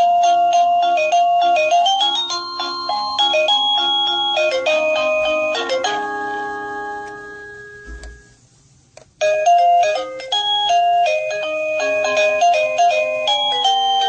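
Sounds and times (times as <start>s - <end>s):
electronic doorbell chime melody: 0.0s - 8.4s, 9.2s - 14.0s.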